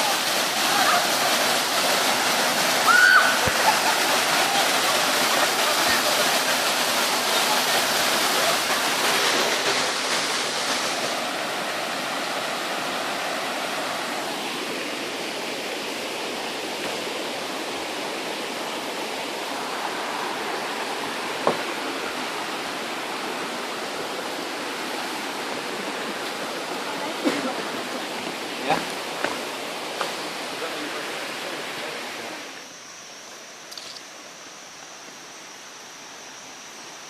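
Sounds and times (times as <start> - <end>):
waterfall rushing: 0.0 - 32.8.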